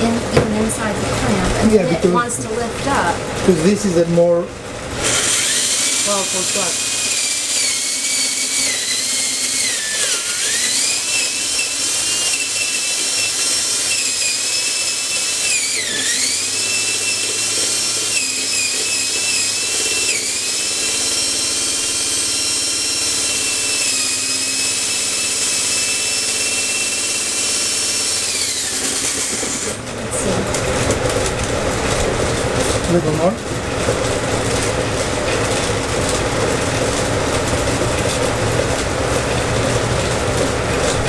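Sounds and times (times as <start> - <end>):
electric drill boring into wood: 2.9 - 41.0.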